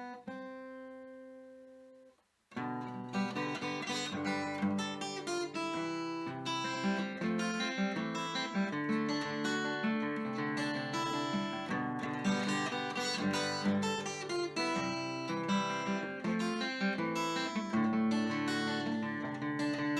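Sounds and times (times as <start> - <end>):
acoustic guitar music: 0.0 - 19.9.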